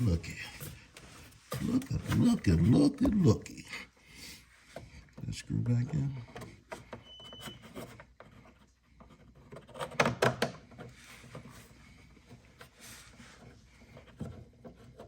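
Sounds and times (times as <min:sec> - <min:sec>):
plastic rubbing and scraping: 0:00.0 - 0:03.5, 0:04.6 - 0:15.0.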